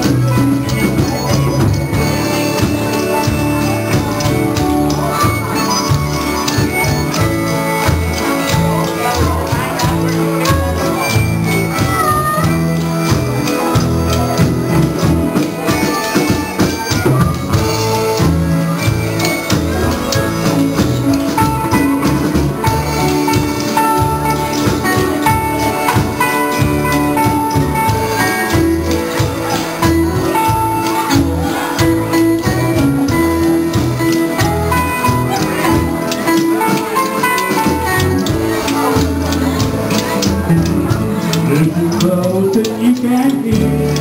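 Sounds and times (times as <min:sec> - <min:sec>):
band playing guitars: 0:00.0 - 0:44.0.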